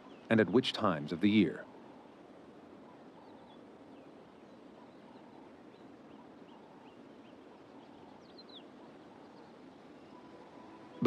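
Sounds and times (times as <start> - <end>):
faint background ambience: 0.0 - 11.0.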